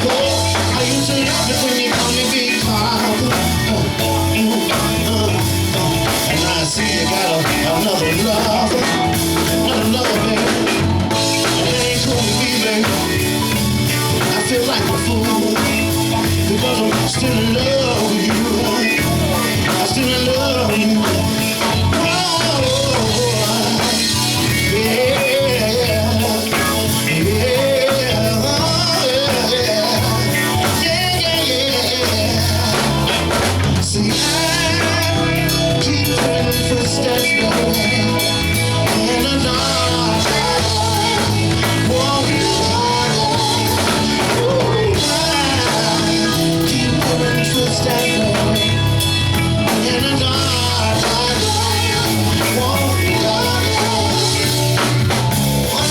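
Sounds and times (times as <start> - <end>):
bass groove: 0.0 - 55.9
drum kit: 0.0 - 55.9
live soul band playing: 0.0 - 55.9
wavering lead melody: 0.0 - 55.9.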